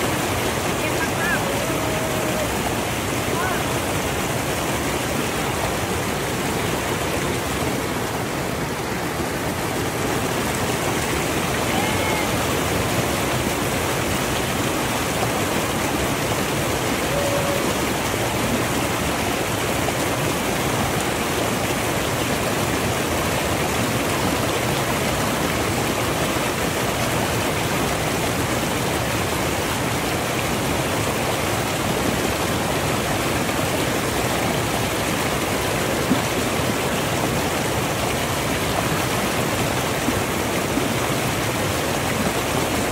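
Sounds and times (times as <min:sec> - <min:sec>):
creek rushing over rocks: 0:00.0 - 0:42.9.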